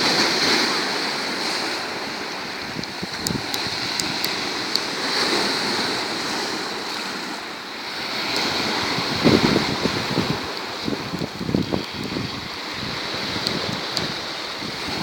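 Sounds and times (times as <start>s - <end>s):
surf washing onto shore: 0.0s - 15.0s.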